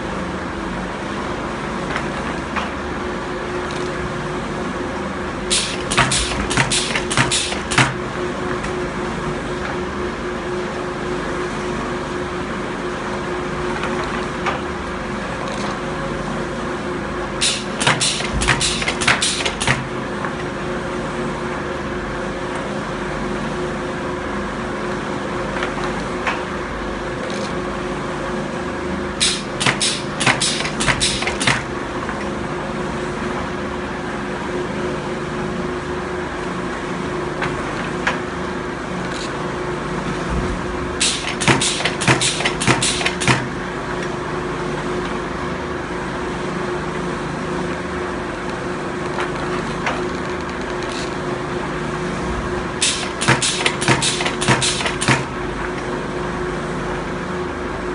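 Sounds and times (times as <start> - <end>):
filter press machine hum: 0.0 - 56.5.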